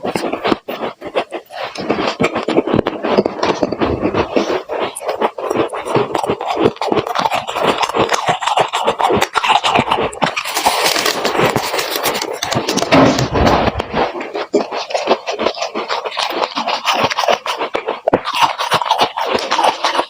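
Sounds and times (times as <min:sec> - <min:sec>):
frost crunching and scraping: 0:00.0 - 0:20.0.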